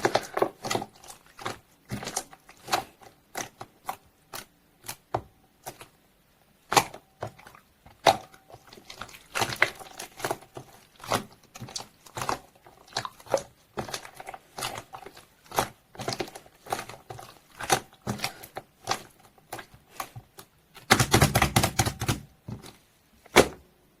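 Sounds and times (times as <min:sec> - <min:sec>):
slime crackling: 0:00.0 - 0:06.0, 0:06.6 - 0:21.2.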